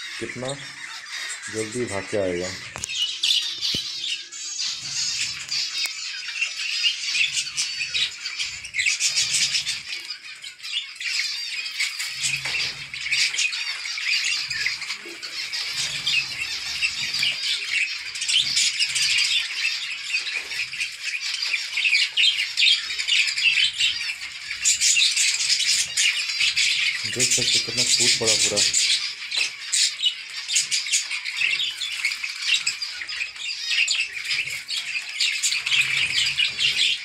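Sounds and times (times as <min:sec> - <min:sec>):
finches chirping: 0:00.0 - 0:37.0.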